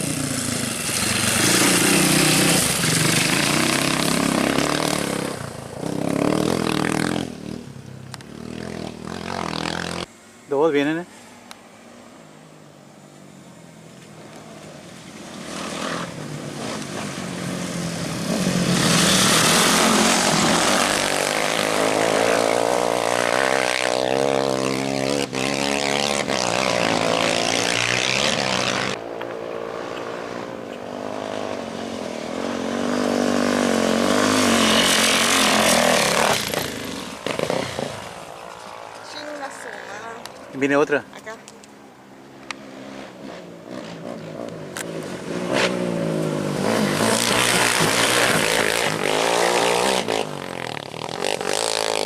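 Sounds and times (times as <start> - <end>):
motorcycle engine passing at speed: 0.0 - 10.1, 14.4 - 40.3, 42.1 - 52.0.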